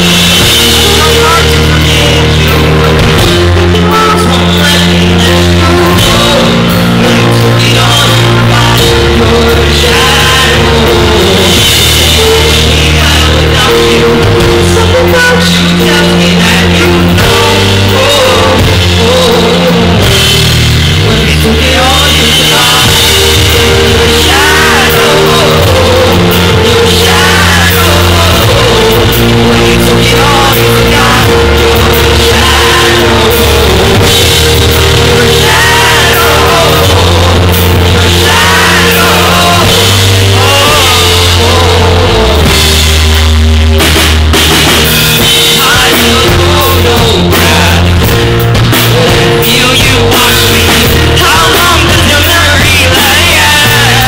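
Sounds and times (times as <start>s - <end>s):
man singing lead: 0.0s - 44.0s, 44.6s - 54.0s
audience singing along: 0.0s - 54.0s
rock band playing: 0.0s - 54.0s.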